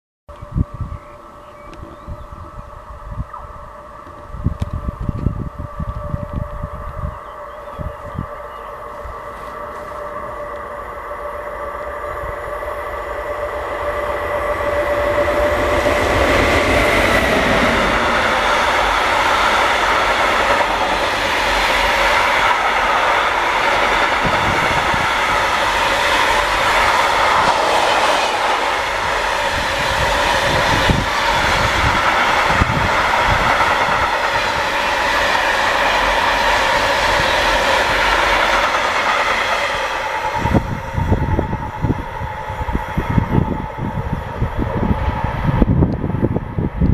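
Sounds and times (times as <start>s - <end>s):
electric locomotive whine: 0.3s - 46.9s
train wheels rushing on rails: 3.9s - 46.9s.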